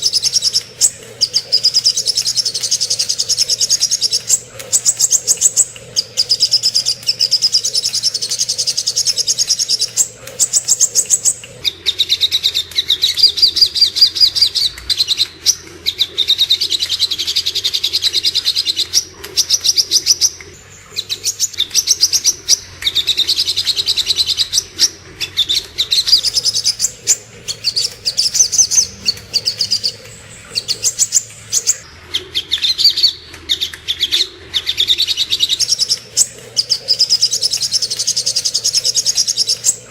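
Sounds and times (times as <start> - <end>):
bird chirping and trilling: 0.0 - 39.9
faint low hum: 0.0 - 39.9.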